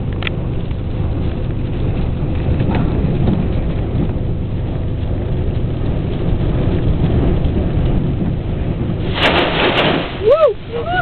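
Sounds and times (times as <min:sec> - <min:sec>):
rain: 0:00.0 - 0:11.0
storm wind buffeting microphone: 0:00.0 - 0:11.0.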